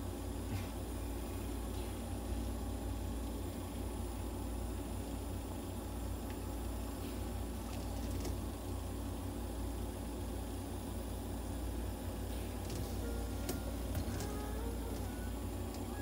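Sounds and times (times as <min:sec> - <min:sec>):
nebulizer mechanical hum with hiss: 0:00.0 - 0:16.0.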